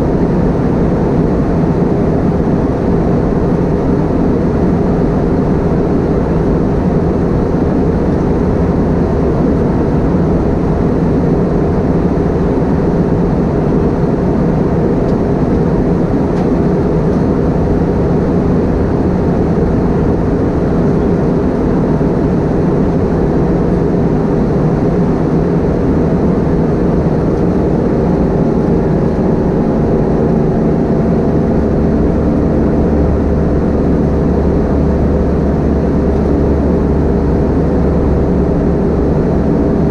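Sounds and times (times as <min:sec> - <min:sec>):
aircraft cabin engine and airflow noise: 0:00.0 - 0:39.9
steady hums: 0:00.0 - 0:39.9.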